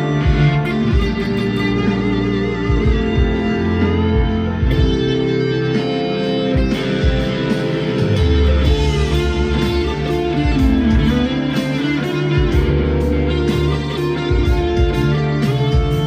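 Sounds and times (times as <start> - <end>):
distorted electric guitar riffs: 0.0 - 16.0.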